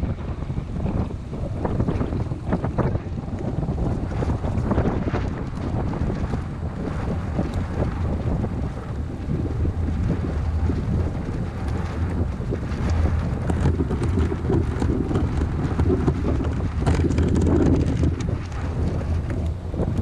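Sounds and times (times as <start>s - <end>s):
water splashing around kayak: 0.0s - 20.0s
wind buffeting microphone: 0.0s - 20.0s.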